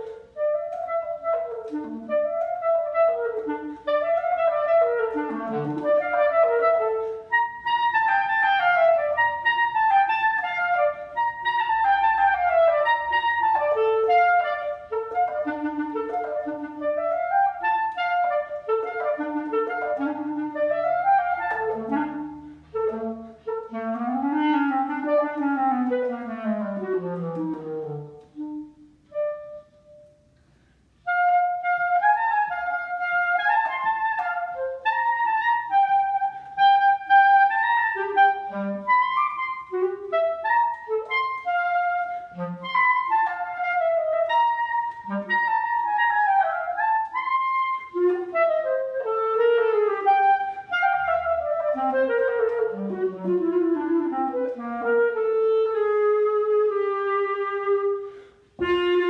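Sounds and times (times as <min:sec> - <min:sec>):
solo clarinet playing: 0:00.0 - 0:59.0.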